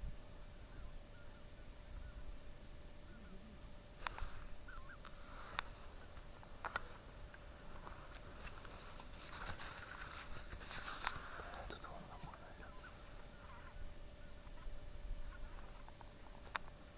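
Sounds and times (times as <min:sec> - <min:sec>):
distant geese calling: 0:00.3 - 0:16.4.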